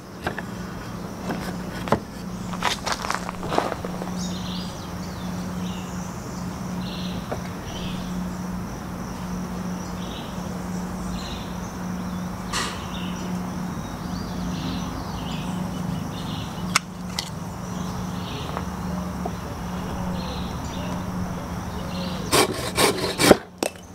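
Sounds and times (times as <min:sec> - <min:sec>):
high insect trill: 0:00.0 - 0:23.9
insects chirping: 0:00.0 - 0:23.9
low steady hum: 0:00.0 - 0:23.9.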